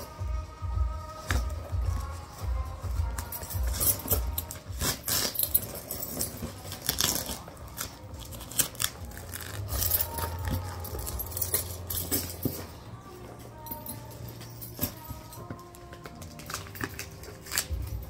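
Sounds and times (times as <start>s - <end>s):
cardboard and plastic rustling: 1.1s - 18.0s.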